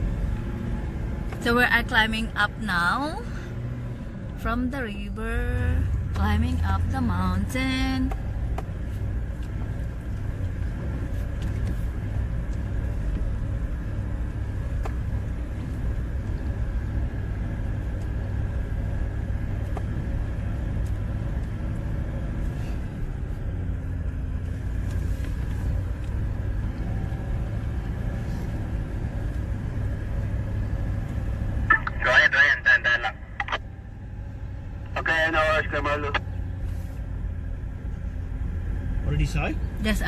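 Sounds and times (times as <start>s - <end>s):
vehicle engine rumble: 0.0s - 40.0s.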